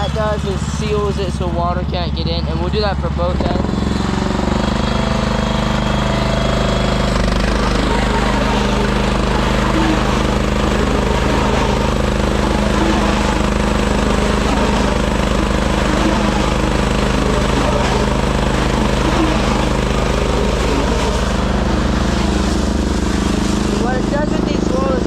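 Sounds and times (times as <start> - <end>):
farm machine engine running: 0.0 - 25.0.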